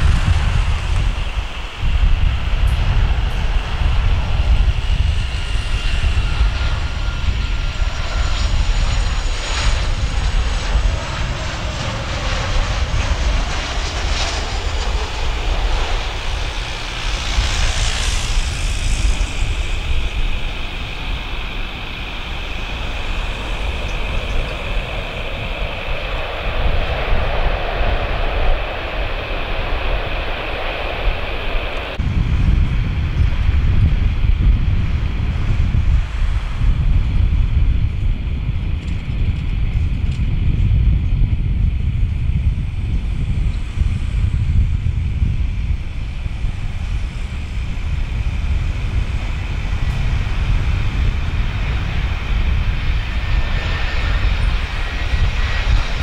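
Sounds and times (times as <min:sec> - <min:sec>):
heavy low rumble: 0:00.0 - 0:56.0
jet engines whining: 0:00.0 - 0:56.0.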